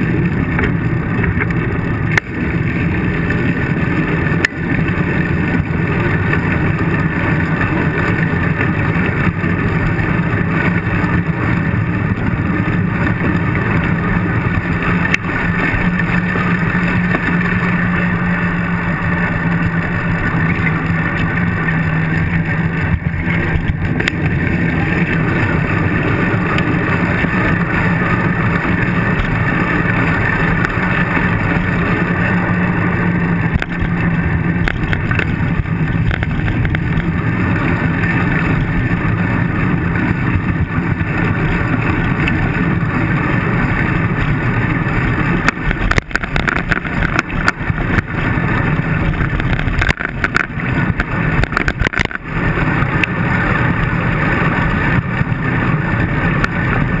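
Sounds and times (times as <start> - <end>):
bike rattling over rough pavement: 0.0 - 57.0
tyre noise on road: 0.0 - 57.0
wind on microphone: 0.0 - 57.0.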